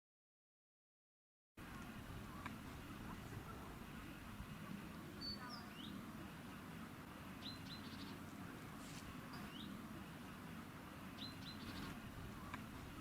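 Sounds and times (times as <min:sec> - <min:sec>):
small birds chirping: 0:01.6 - 0:13.0.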